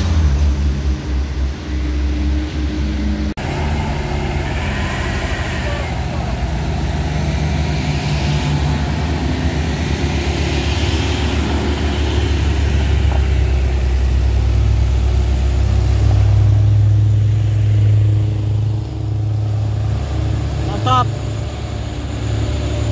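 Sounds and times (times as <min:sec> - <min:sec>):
pickup engine working hard: 0:00.0 - 0:22.9.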